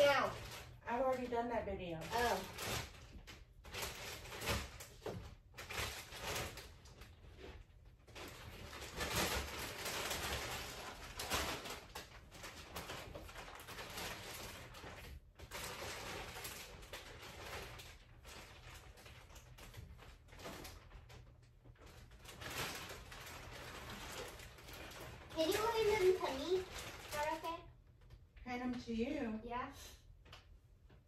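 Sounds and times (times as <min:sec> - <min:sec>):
yarn rustling and crackling: 0:00.0 - 0:28.2.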